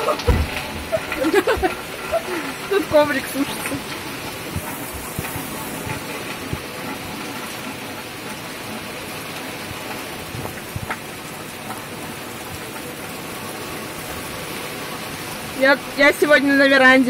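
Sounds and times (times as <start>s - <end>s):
heavy rain hissing: 0.0s - 17.0s
louder rain taps: 0.0s - 17.0s.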